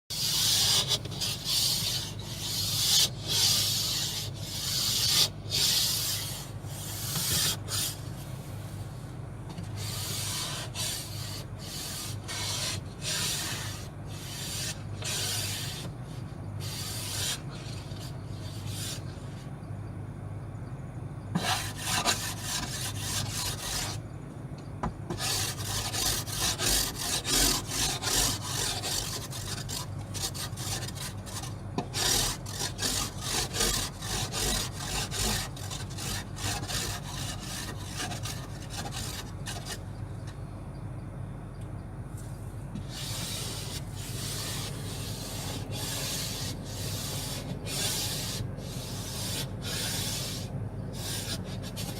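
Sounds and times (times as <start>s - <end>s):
ice scraper scraping ice: 0.1s - 8.0s, 9.6s - 15.9s, 16.6s - 19.2s, 21.4s - 24.0s, 25.1s - 39.9s, 42.8s - 51.9s.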